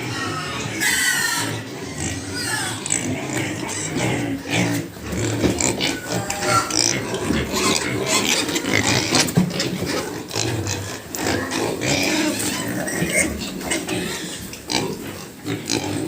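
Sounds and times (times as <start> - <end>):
pigs grunting and oinking: 0.0 - 16.0.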